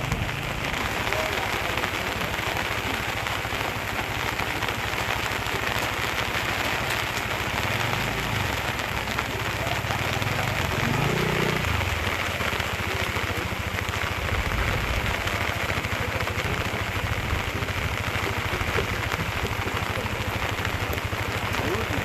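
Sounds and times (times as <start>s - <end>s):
motorcycle engine running: 0.0s - 22.0s
rain falling: 0.0s - 22.0s.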